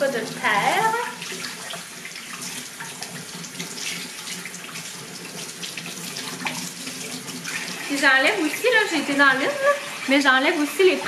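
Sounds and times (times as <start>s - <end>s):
faucet water splashing: 0.0s - 11.0s.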